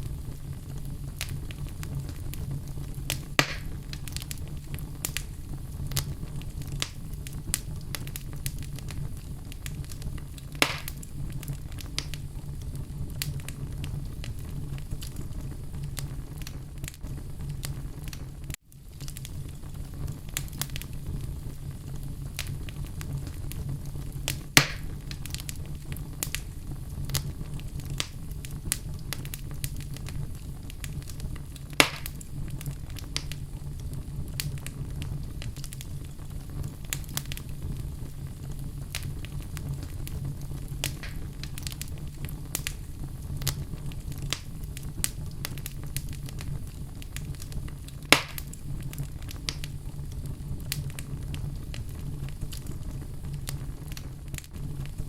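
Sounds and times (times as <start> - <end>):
fire crackling in a fireplace: 0.0 - 55.0
fire pops: 0.0 - 55.0.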